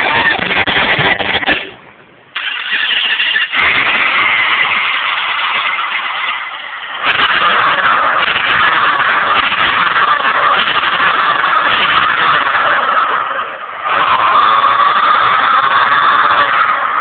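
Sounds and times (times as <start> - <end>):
car engine from phone speaker: 2.4 - 17.0.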